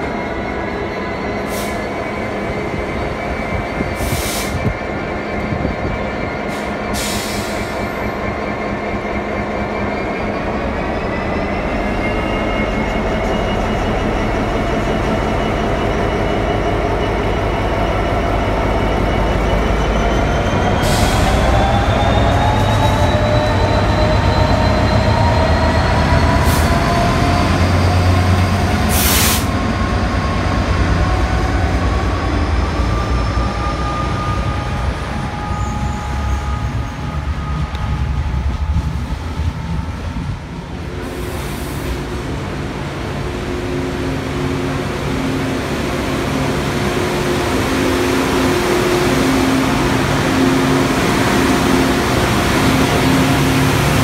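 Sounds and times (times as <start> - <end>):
diesel locomotive engine pulling away: 0.0 - 54.0.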